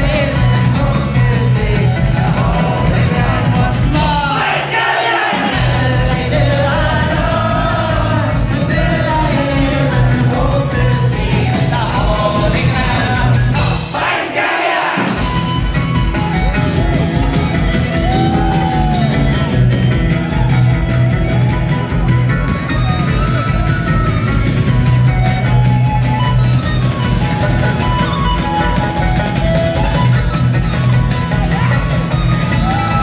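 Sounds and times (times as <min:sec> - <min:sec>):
crowd shouting and singing along: 0:00.0 - 0:33.0
folk band playing: 0:00.0 - 0:33.0.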